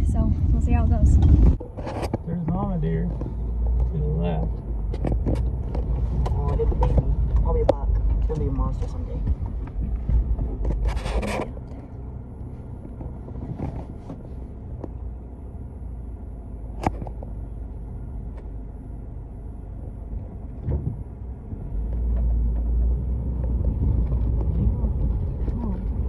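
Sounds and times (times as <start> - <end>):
vehicle rumbling on dirt road: 0.0 - 26.0.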